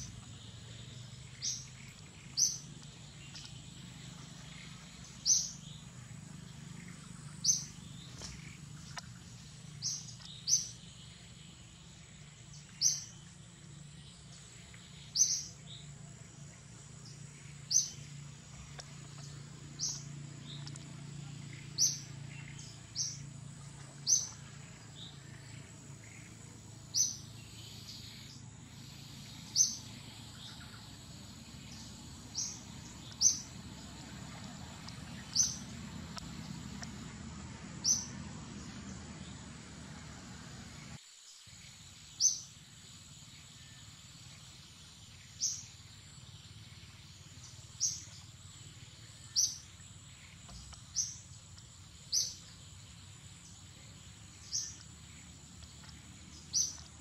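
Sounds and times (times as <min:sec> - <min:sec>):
bird chirping: 0:00.0 - 0:15.9, 0:17.0 - 0:23.3, 0:24.0 - 0:37.2, 0:37.8 - 0:39.4, 0:43.4 - 0:57.0.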